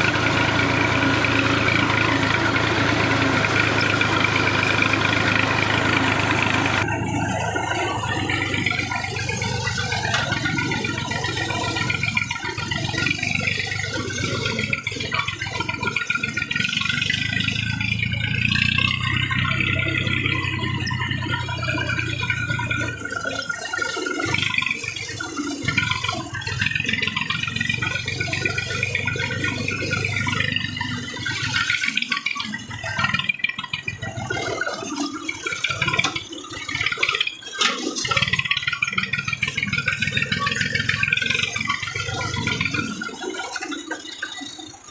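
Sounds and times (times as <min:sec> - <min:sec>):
tractor diesel engine rattling: 0:00.0 - 0:44.9.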